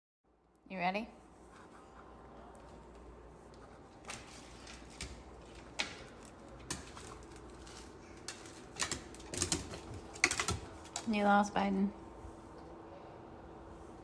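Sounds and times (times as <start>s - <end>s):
low steady background noise: 0.3s - 14.0s.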